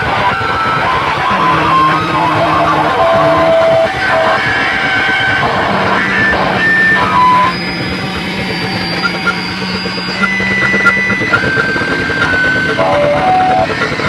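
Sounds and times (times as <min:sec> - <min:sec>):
distorted noise music: 0:00.0 - 0:14.0
high held tones: 0:00.7 - 0:14.0
steady low drone: 0:00.7 - 0:14.0.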